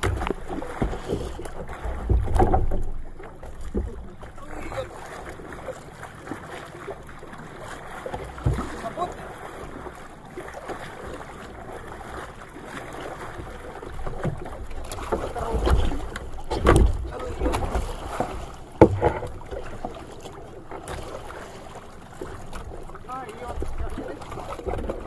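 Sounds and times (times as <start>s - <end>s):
water splashing against boat: 0.0s - 25.0s.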